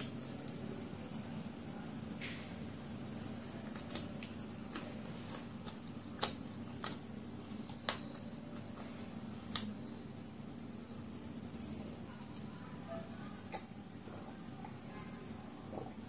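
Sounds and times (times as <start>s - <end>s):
crunchy chewing: 0.0s - 16.0s
high-pitched whine with low hum: 0.0s - 16.0s.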